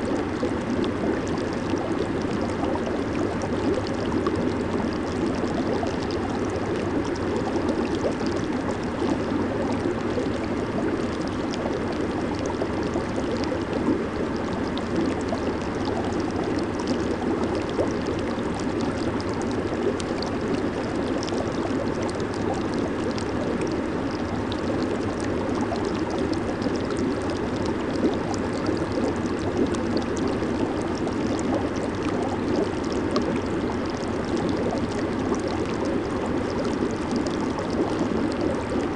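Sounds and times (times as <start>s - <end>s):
jacuzzi water bubbling: 0.0s - 38.9s.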